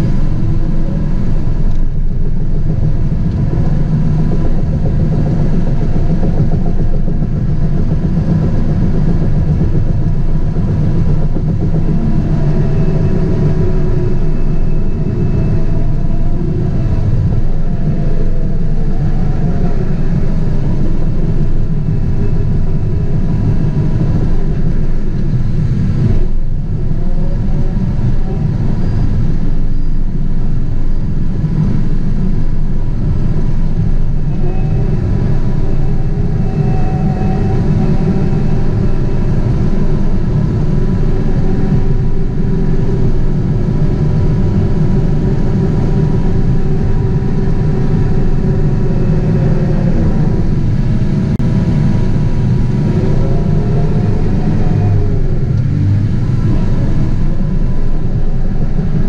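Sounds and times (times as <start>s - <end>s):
diesel engine running: 0.0s - 59.0s
faint wavering whine: 0.0s - 59.0s.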